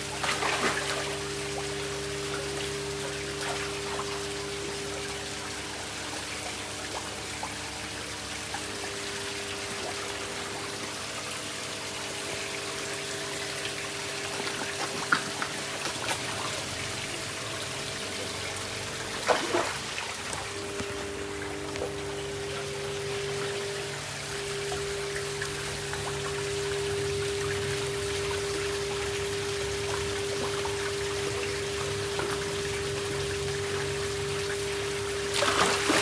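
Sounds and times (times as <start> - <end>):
low steady hum: 0.0 - 36.0
waterfall trickling and splashing: 0.0 - 36.0.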